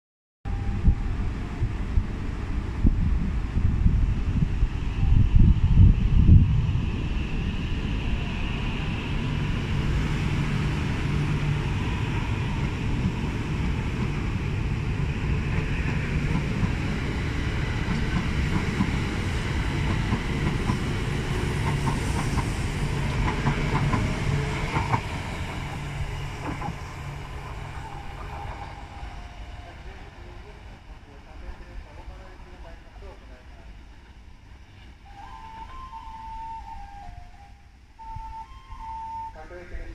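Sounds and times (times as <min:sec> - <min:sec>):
train wheels and motors rumbling: 0:00.6 - 0:38.7.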